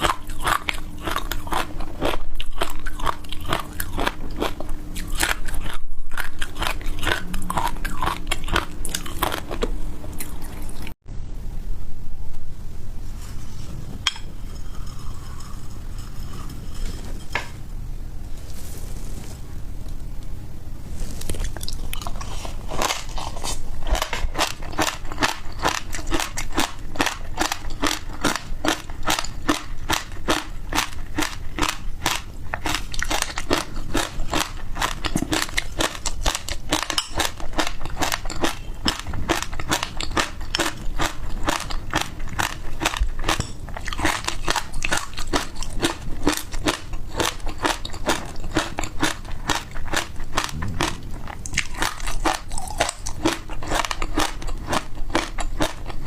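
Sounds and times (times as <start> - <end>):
crunchy chewing: 0.0 - 11.0, 21.0 - 56.0.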